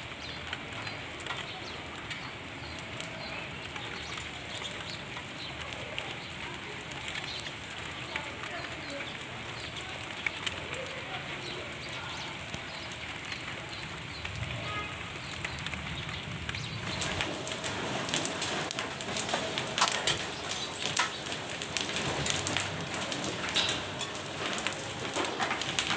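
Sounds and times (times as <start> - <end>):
hailstones striking ground: 0.0 - 25.9
rain hissing: 0.0 - 25.9.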